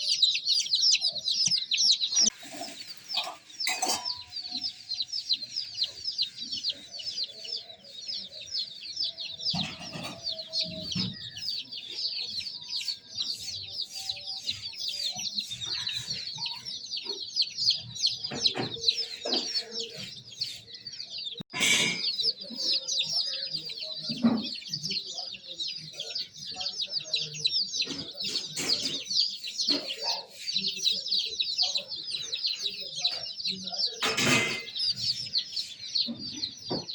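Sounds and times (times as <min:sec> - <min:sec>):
baby chicks cheeping: 0:00.0 - 0:36.9.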